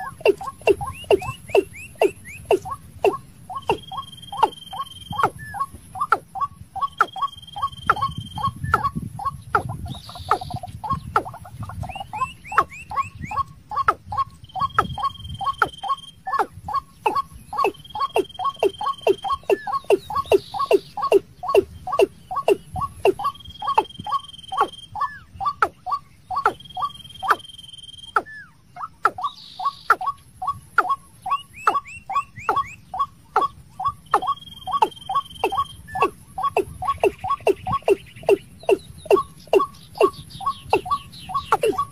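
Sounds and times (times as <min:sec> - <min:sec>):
bird calling falling notes: 0:00.0 - 0:41.9
higher rising chirps: 0:00.0 - 0:41.9.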